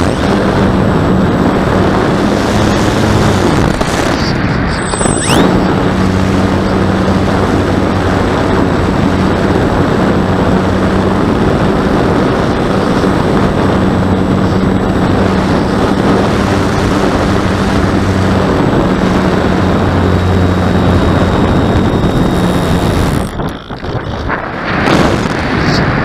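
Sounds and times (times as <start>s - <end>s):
steady low hum: 0.0s - 26.0s
wind rushing over microphone: 0.0s - 26.0s.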